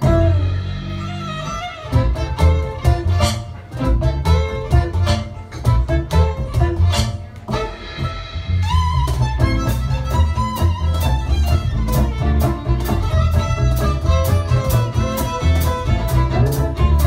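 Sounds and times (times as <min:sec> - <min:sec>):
drum kit beat on snare and cymbals: 0:00.0 - 0:01.2, 0:01.8 - 0:17.0
upright double bass: 0:00.0 - 0:17.0
violin melody: 0:00.0 - 0:17.0.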